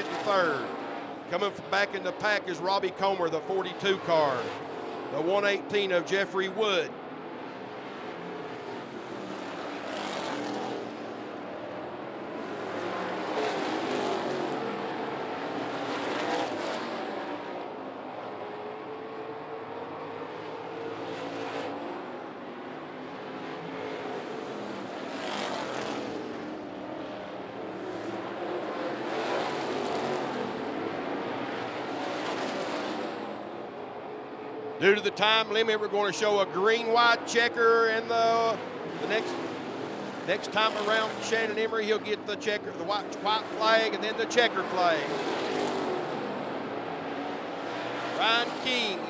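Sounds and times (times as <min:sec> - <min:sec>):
race car engines passing: 0:00.0 - 0:49.0.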